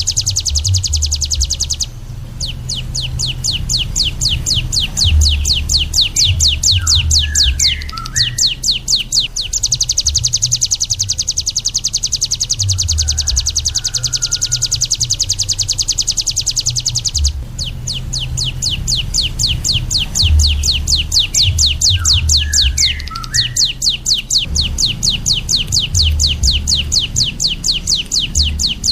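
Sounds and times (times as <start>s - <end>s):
small songbird singing: 0.0s - 28.9s.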